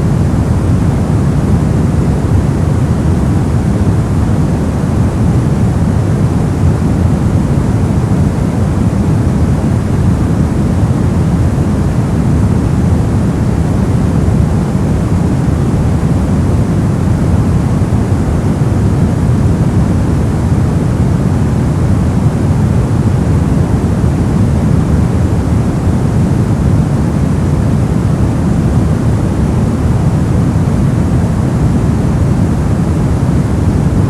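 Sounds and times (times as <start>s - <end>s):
deep white noise rush: 0.0s - 34.0s.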